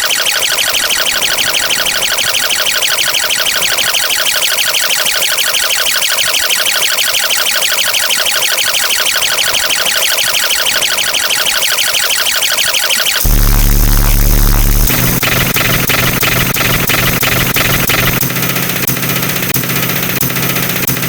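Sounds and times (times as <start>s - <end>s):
harsh electronic buzzing: 0.7s - 21.0s.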